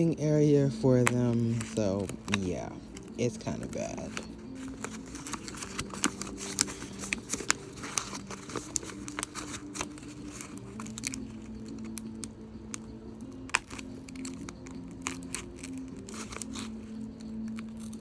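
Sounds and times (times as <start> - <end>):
cardboard and tape tearing: 1.0 - 12.0, 13.5 - 18.0.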